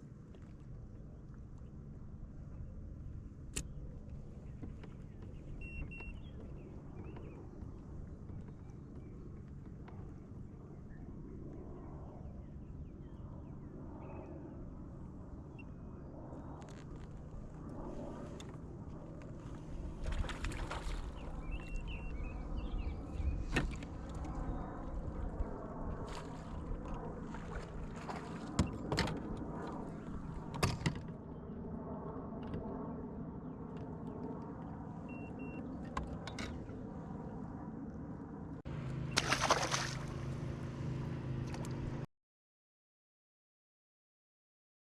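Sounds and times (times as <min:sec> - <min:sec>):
steady motor hum: 0:00.0 - 0:42.1.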